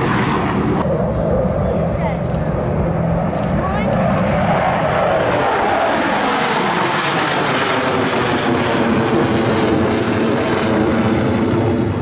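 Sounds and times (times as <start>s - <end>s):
fighter jets flying by: 0.0s - 12.0s.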